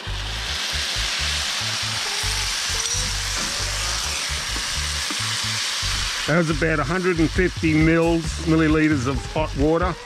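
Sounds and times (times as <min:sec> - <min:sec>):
gravy hissing and sizzling in pan: 0:00.0 - 0:10.0.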